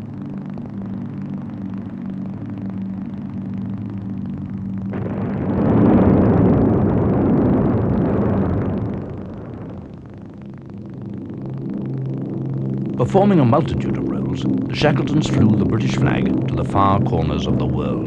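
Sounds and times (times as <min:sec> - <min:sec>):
low drone: 0:00.0 - 0:18.0
bomb explosion rumble: 0:01.6 - 0:18.0.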